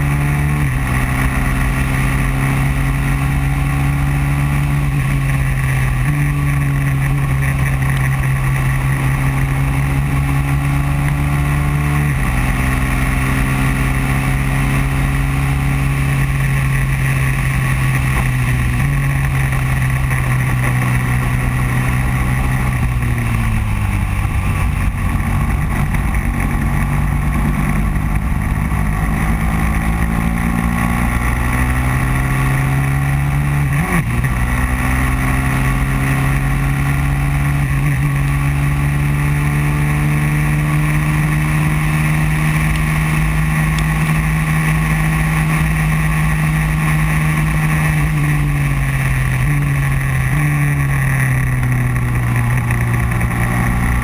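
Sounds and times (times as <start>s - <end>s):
racing kart engine high-revving: 0.0s - 54.0s.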